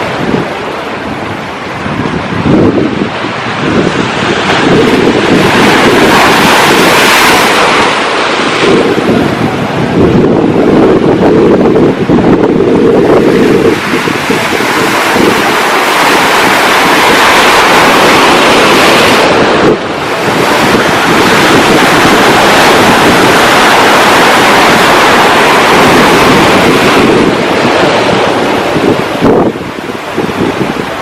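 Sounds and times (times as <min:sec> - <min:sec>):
ocean surf washing in: 0:00.0 - 0:31.0
wind buffeting microphone: 0:00.0 - 0:31.0.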